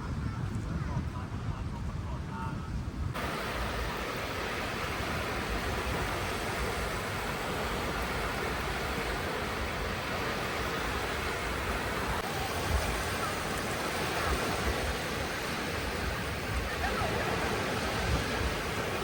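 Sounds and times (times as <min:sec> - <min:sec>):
sea surf washing onto shore: 0:03.2 - 0:19.0.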